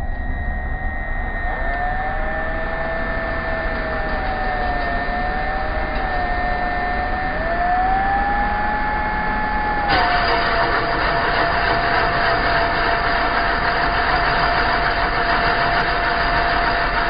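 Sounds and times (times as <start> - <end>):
electric drill motor whine: 0.0 - 17.0.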